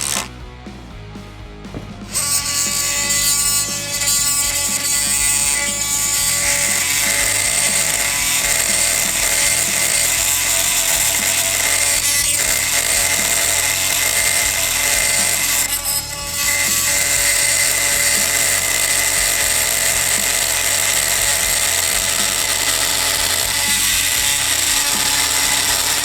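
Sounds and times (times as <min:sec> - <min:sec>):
multi-tool cutting pipe buzzing: 0:00.0 - 0:00.4, 0:01.8 - 0:26.0.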